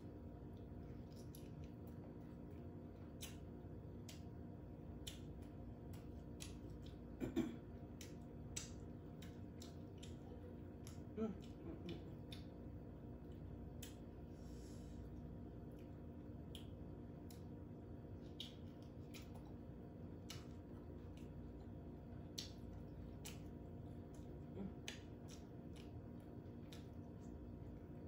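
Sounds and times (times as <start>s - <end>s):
steady low hum: 0.0s - 28.0s
wet eating clicks and squishes: 0.2s - 14.2s, 15.2s - 28.0s.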